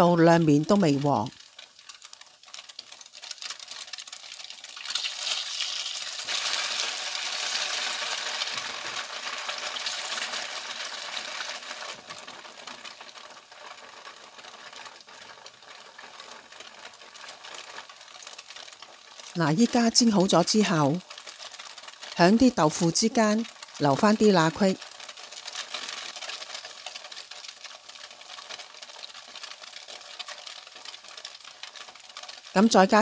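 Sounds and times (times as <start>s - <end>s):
tofu sizzling in hot oil: 0.0s - 33.0s.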